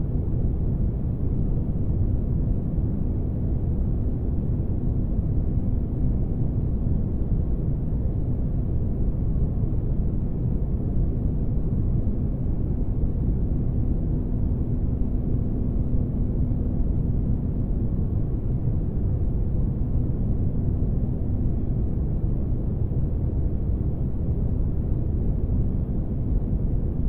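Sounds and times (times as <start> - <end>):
deep steady ambience noise: 0.0 - 27.0
faint hum: 0.0 - 27.0.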